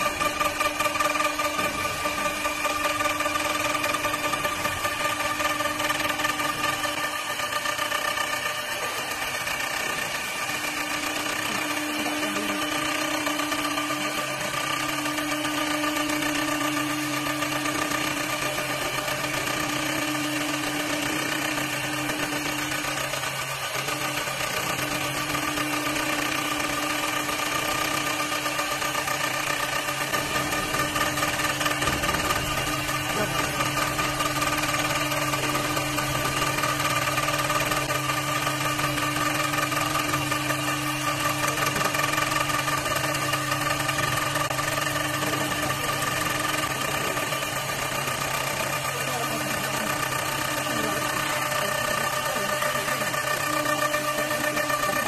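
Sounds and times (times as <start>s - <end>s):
wood lathe humming: 0.0s - 55.0s.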